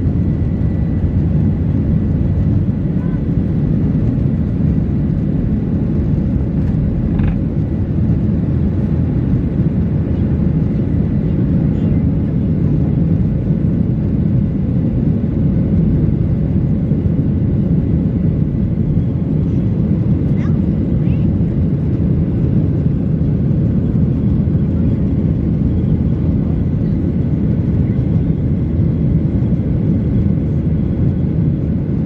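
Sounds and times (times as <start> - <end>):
airplane cabin engine rush: 0.0 - 32.0.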